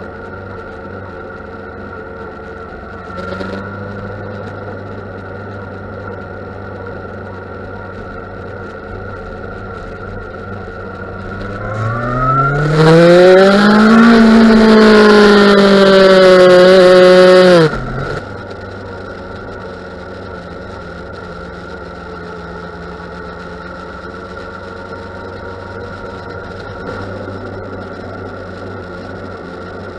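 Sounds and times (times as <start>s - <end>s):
motorcycle engine idling and revving: 0.0s - 29.9s.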